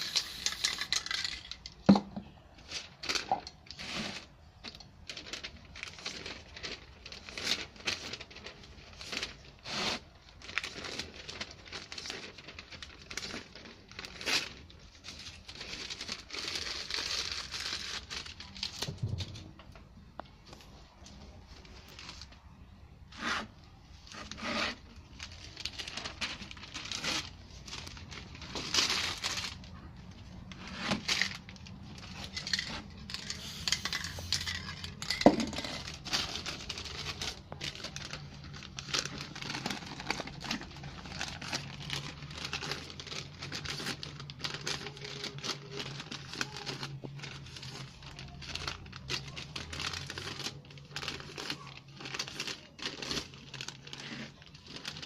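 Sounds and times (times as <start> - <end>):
paper rustling and crumpling: 0.0 - 55.0.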